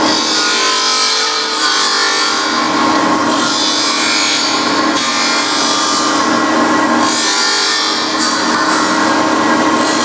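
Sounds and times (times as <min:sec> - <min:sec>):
grinding wheel grinding metal: 0:00.0 - 0:10.0
machine hum: 0:00.0 - 0:10.0.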